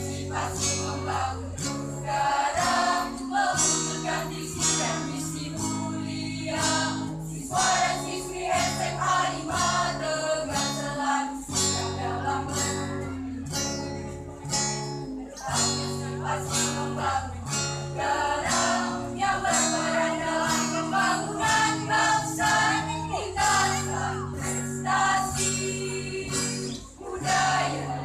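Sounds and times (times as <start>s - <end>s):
choir singing in harmony: 0.0s - 13.0s, 15.4s - 28.0s
strummed acoustic guitar: 0.0s - 28.0s.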